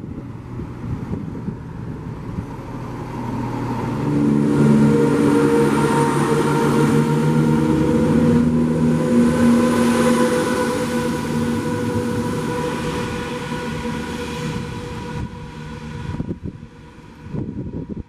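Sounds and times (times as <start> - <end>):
diesel train passing: 0.0 - 18.0.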